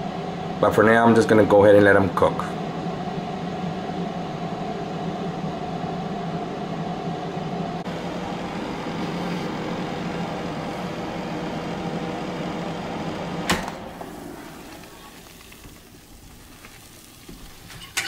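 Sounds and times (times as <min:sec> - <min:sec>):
air fryer fan whirring: 0:00.0 - 0:18.0.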